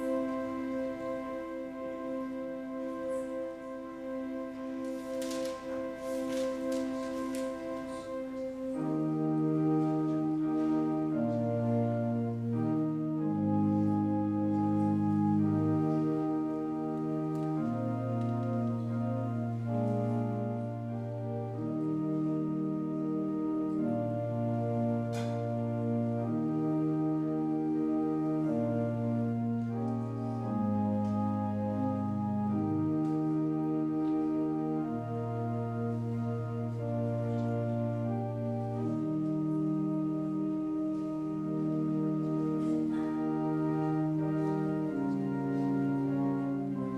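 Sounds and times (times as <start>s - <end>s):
deep organ bass notes: 0.0s - 4.8s, 7.0s - 46.9s
organ playing slow chords: 0.0s - 46.9s.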